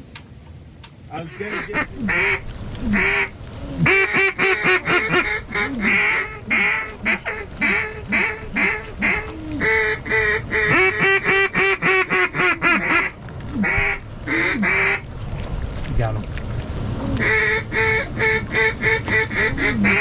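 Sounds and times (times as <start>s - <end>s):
duck quacking: 1.2s - 15.0s, 17.2s - 20.0s.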